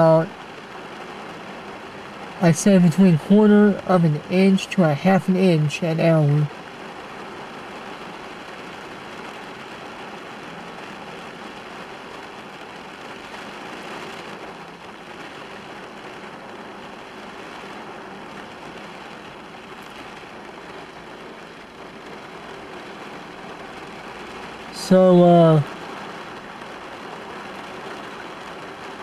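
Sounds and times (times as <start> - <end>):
heavy rain heard from inside car: 0.0 - 29.0.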